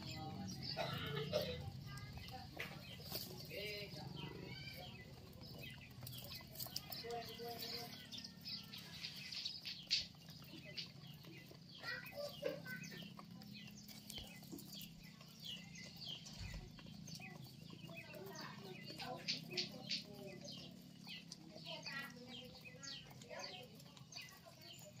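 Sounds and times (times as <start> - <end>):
pigeons pecking on concrete: 0.0 - 25.0.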